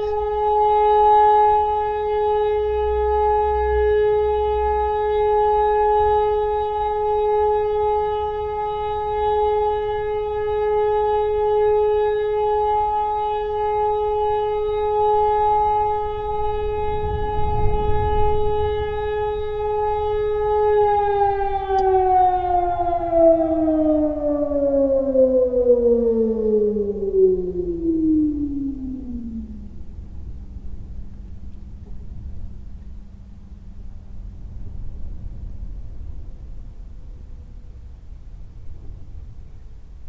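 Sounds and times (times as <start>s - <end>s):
civil defence siren: 0.0s - 40.0s.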